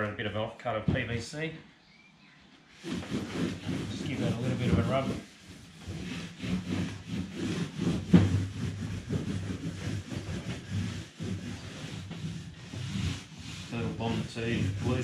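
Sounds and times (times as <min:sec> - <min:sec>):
pipe scraping over carpet: 0:02.7 - 0:15.0.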